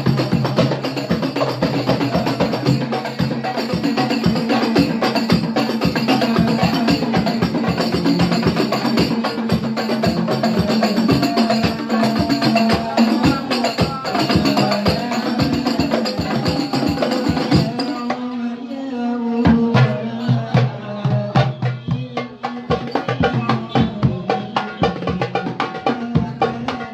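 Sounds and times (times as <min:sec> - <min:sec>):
hand drums beating fast rhythm: 0:00.0 - 0:18.3, 0:19.4 - 0:26.9.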